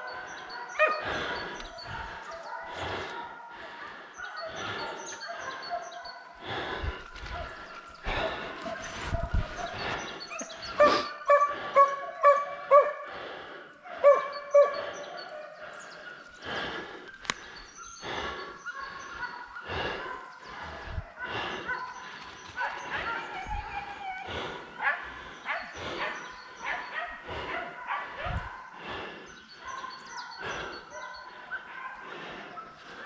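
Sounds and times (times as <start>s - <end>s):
dogs barking and yelping: 0.0s - 33.0s.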